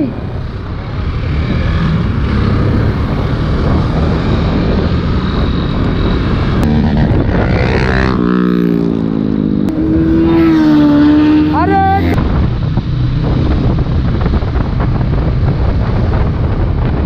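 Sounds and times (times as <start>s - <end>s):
motorcycle engine: 0.0s - 17.0s
rushing wind noise: 0.0s - 17.0s.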